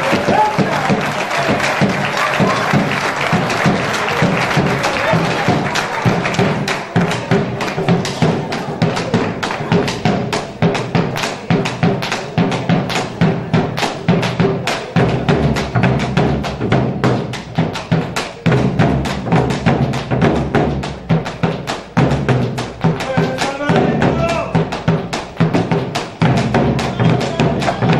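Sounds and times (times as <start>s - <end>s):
quick dense drum strokes: 0.0s - 27.9s.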